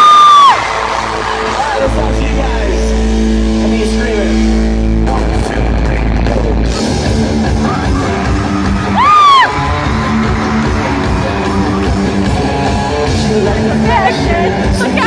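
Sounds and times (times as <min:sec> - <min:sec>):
live pop rock band: 0:00.0 - 0:15.0.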